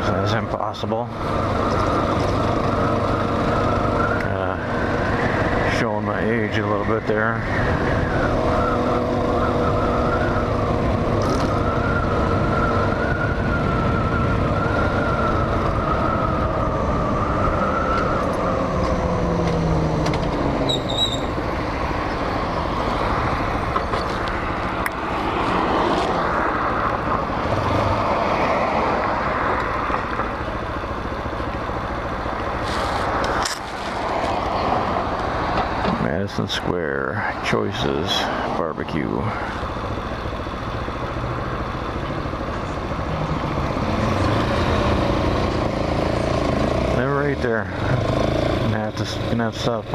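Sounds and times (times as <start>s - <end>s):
rushing wind and road noise: 0.0s - 49.9s.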